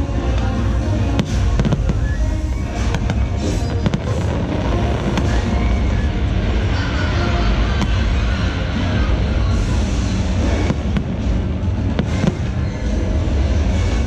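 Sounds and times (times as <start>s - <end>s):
fireworks bursting: 0.0s - 14.0s
loud show music with bass: 0.0s - 14.0s.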